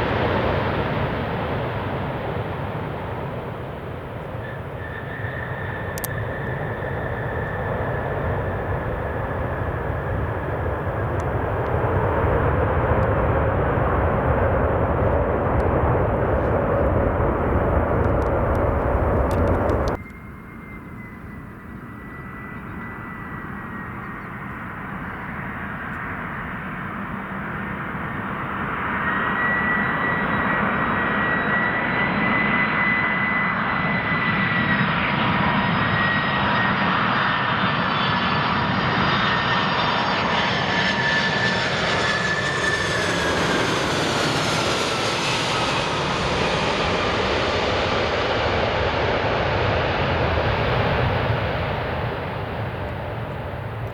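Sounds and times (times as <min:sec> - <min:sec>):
jet engine rumble and whine: 0:00.0 - 0:53.9.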